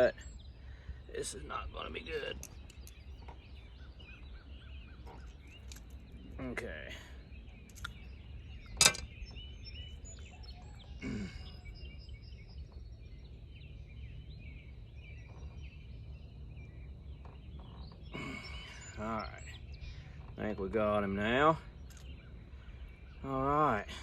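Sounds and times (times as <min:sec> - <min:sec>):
small birds chirping: 0:00.0 - 0:24.0
wind rumble: 0:00.0 - 0:24.0.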